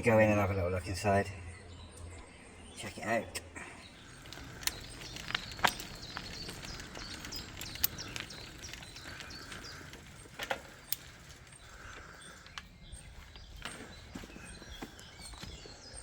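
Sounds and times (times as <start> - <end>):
birds chirping and calling: 0.0 - 16.0.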